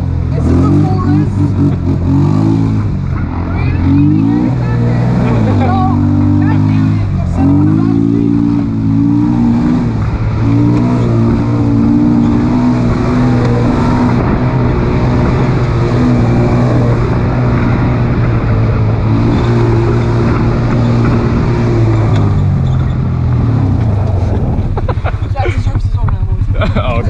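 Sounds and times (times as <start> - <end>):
motor engine running: 0.0 - 27.0.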